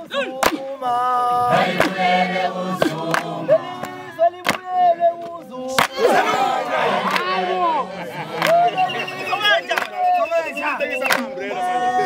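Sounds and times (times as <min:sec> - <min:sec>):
men singing a chant: 0:00.0 - 0:10.2.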